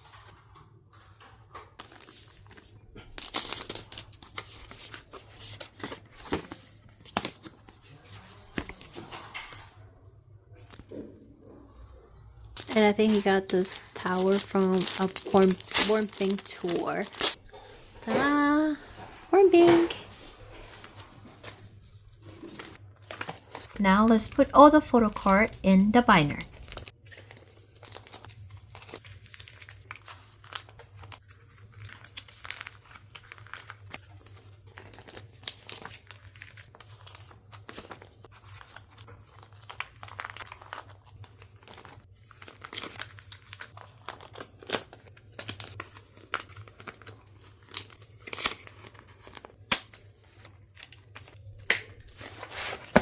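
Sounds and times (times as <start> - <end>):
plastic sleeves crinkling: 0.0 - 9.8, 12.5 - 53.0.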